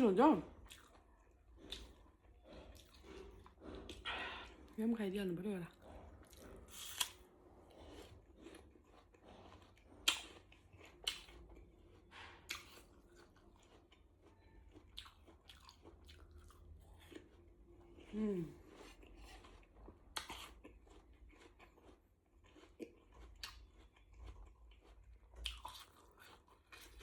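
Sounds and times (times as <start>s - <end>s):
chewing noodles: 0.4s - 4.8s, 5.7s - 27.0s.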